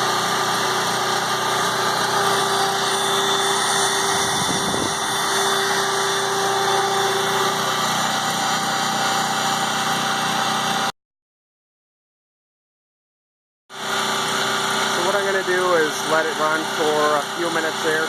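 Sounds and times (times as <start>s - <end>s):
generator engine running: 0.0s - 10.9s, 13.7s - 18.0s.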